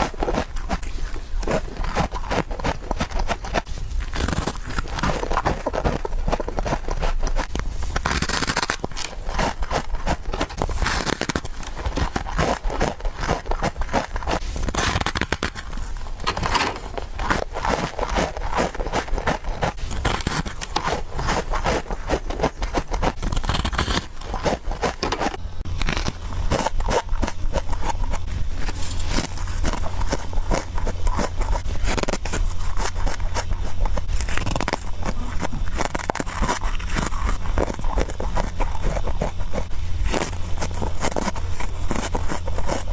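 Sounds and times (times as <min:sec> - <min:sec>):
chewing crunchy frost: 0:00.0 - 0:42.9.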